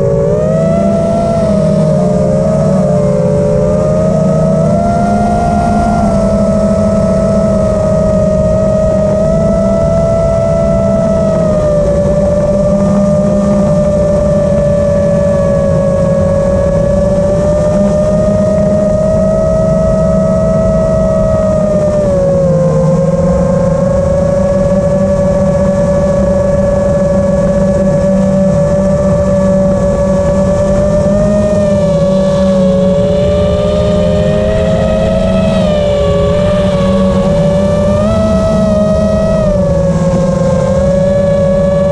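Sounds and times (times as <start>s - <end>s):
drone motors whining: 0.0s - 41.9s
prop wash rush: 0.0s - 41.9s.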